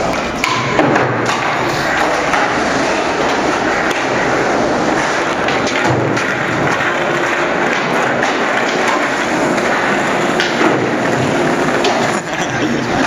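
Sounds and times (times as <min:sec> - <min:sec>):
skateboard clacks: 0:00.0 - 0:13.0
skateboard wheels rolling on asphalt: 0:00.0 - 0:13.0.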